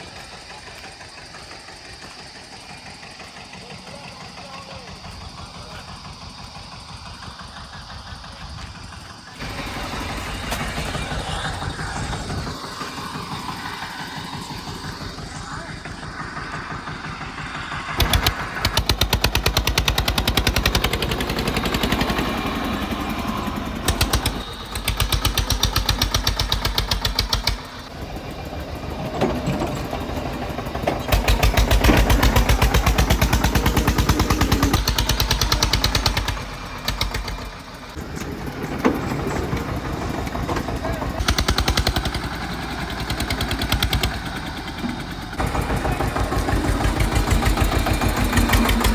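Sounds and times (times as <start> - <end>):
diesel tractor engine chugging: 0.0 - 48.9.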